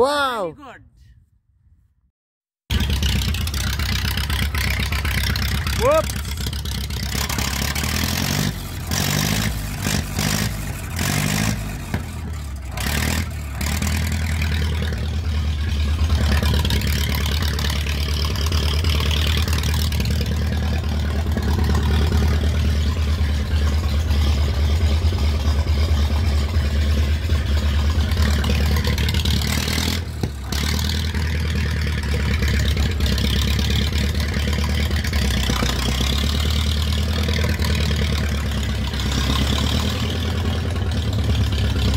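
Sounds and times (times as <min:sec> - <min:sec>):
tractor engine running: 0:02.7 - 0:41.9.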